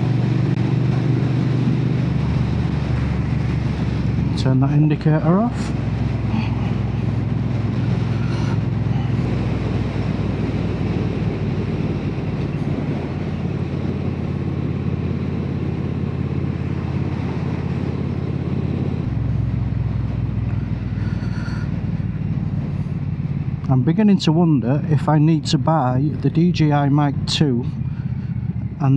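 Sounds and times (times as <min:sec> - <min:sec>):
motorcycle engine running: 0:00.0 - 0:28.9
wind rush: 0:00.0 - 0:28.9.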